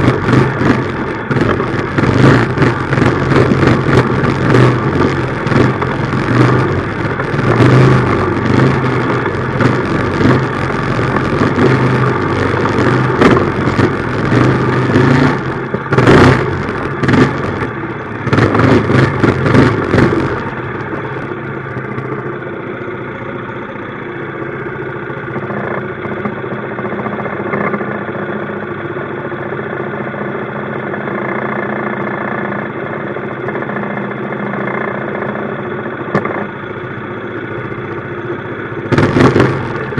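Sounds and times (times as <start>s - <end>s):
loud engine bursts: 0.0s - 39.9s
minibike engine running: 0.0s - 39.9s.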